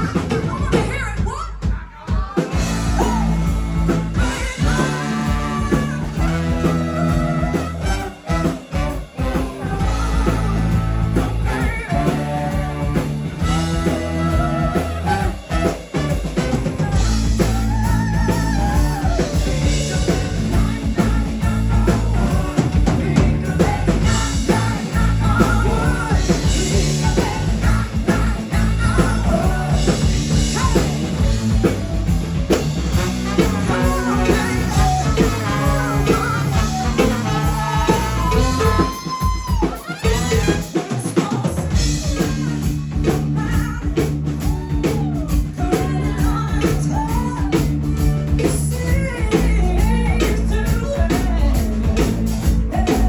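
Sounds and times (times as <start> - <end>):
person singing: 0.0 - 31.8, 32.5 - 53.0
live band playing disco-rock: 0.0 - 53.0.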